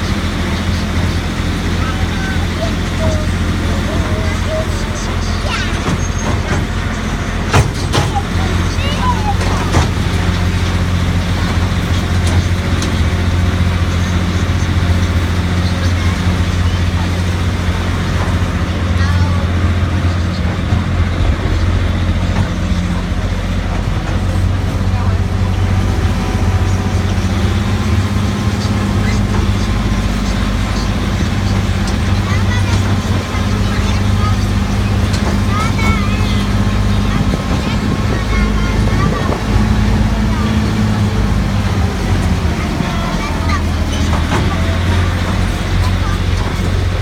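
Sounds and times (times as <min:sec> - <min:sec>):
engine droning: 0:00.0 - 0:47.0
road noise: 0:00.0 - 0:47.0.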